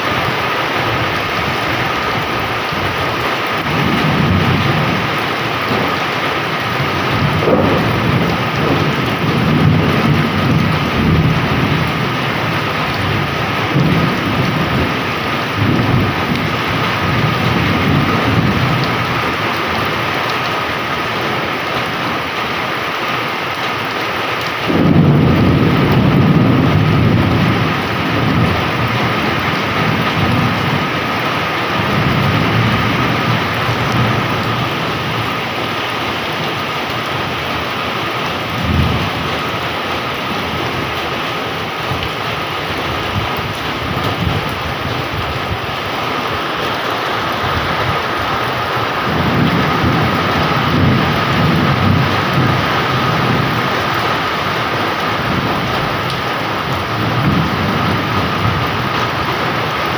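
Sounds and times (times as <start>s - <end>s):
thunder rumbling: 0.0s - 22.3s, 24.6s - 59.9s
heavy rain pouring: 0.0s - 59.9s.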